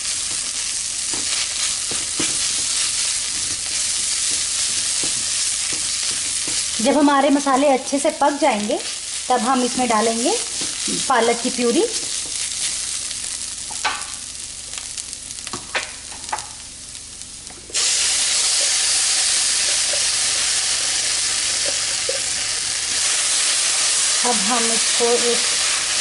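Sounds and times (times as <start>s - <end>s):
loud steady sizzle: 0.0s - 26.0s.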